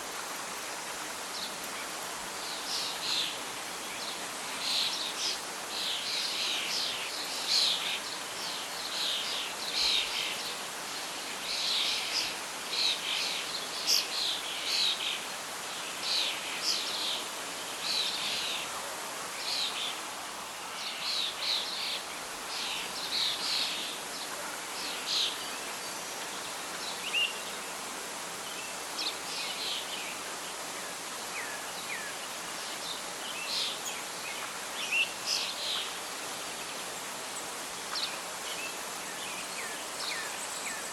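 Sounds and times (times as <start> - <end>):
wind rustling leaves: 0.0 - 40.9.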